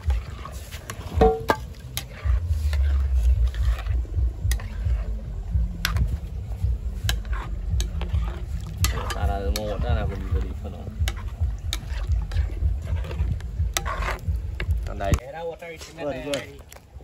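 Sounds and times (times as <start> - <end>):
metal ladle scraping a pot: 0.0 - 5.2, 5.8 - 14.9
steady low rumble: 0.0 - 15.2.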